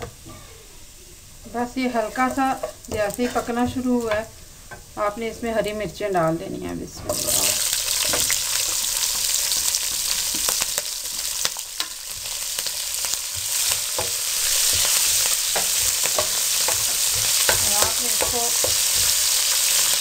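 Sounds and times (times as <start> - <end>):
spices sizzling in hot oil: 0.0 - 20.0
wooden spoon scraping a pan: 1.5 - 4.9, 6.9 - 20.0.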